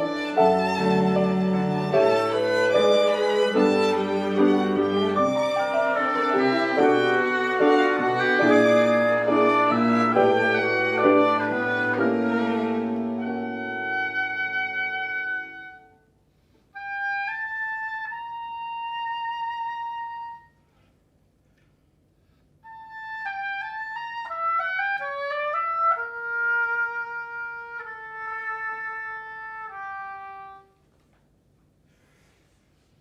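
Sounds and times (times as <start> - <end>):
solo woodwind playing: 0.0 - 16.1, 16.7 - 20.9, 22.6 - 30.8.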